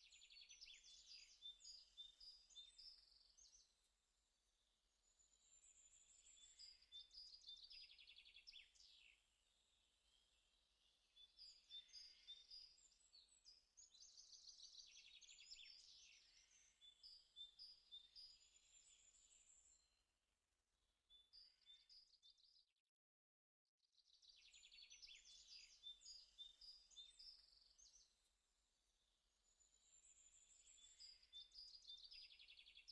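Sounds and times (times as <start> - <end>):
songbird singing: 0.0 - 3.9, 4.5 - 19.8, 24.0 - 28.3, 29.0 - 32.9.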